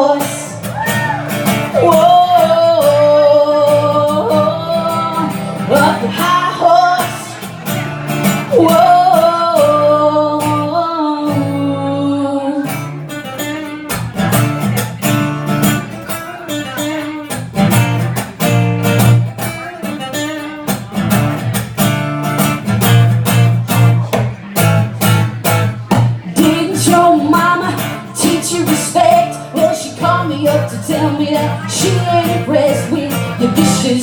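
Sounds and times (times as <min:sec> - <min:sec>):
guitar strumming: 0:00.0 - 0:34.0.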